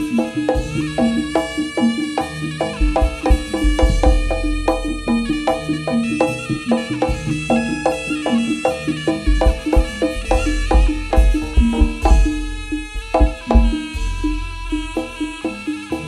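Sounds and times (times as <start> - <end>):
booming bass: 0.0 - 16.0
gamelan ensemble music: 0.0 - 16.0.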